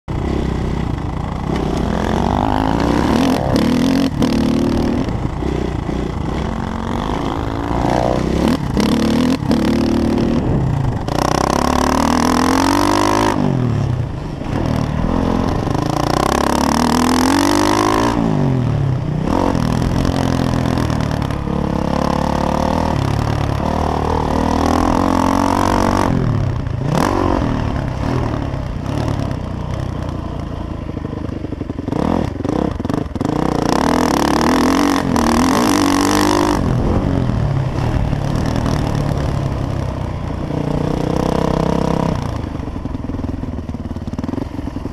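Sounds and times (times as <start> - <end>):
motocross bike engine revving: 0.1 - 30.0, 31.6 - 42.8.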